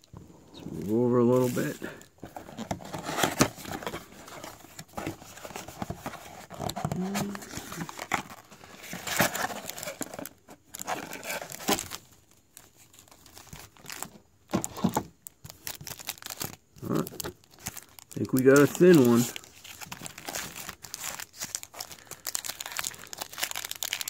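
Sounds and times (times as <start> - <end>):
paper and foil crinkling: 0.7 - 24.0.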